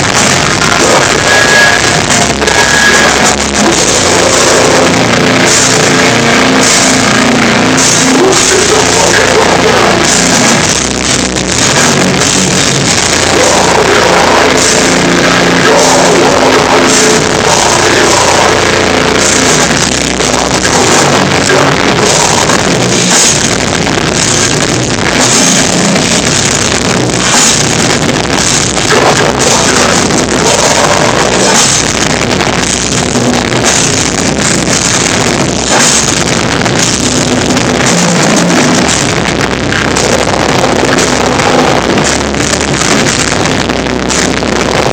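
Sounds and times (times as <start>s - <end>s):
distorted guitars: 0.0s - 44.9s
pounding drums: 0.0s - 44.9s.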